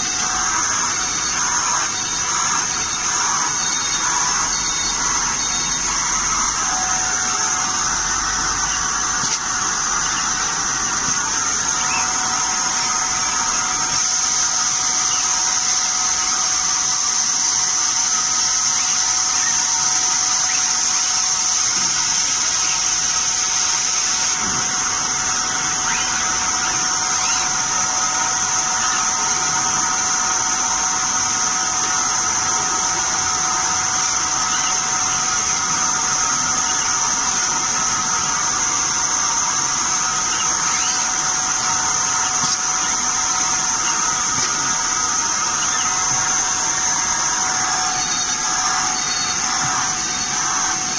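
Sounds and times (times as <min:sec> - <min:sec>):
router machine high-pitched whine: 0:00.0 - 0:50.9.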